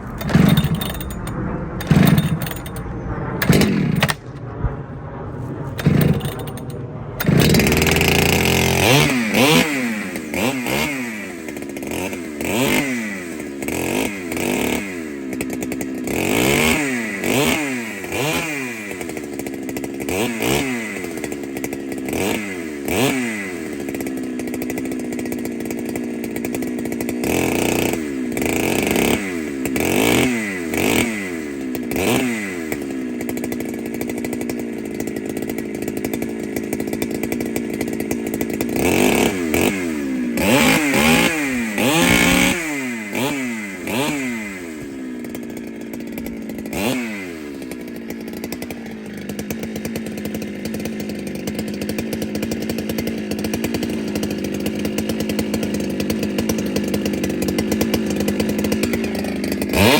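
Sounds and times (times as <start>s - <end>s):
chainsaw revving and cutting wood: 0.0s - 4.3s, 5.6s - 59.9s.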